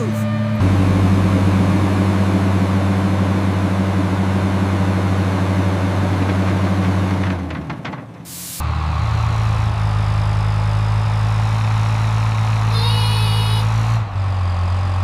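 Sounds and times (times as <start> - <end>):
heavy vehicle engine drone: 0.0 - 15.0.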